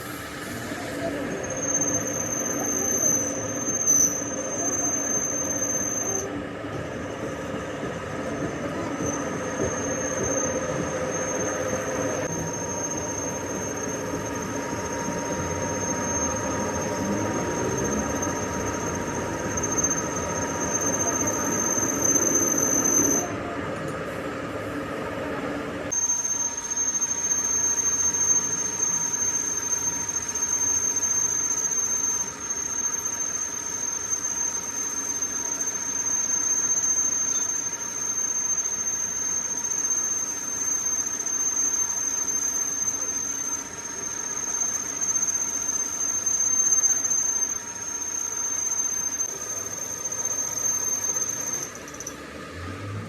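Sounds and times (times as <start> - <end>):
high-pitched cutting squeal: 0.0 - 6.4, 8.8 - 23.4, 25.9 - 52.2.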